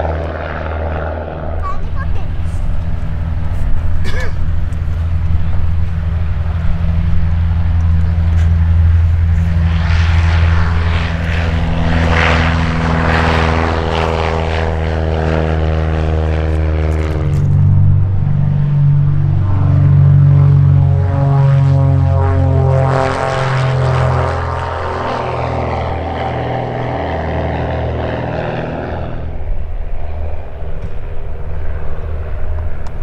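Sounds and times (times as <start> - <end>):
propeller plane drone: 0.0 - 33.0
twin-engine propeller plane throbbing: 0.0 - 33.0.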